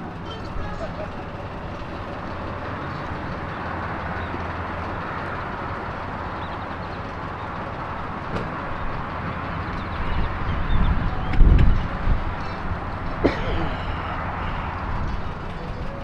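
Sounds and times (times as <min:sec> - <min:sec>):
outdoor background noise: 0:00.0 - 0:16.0
rumble of vehicles: 0:00.0 - 0:16.0.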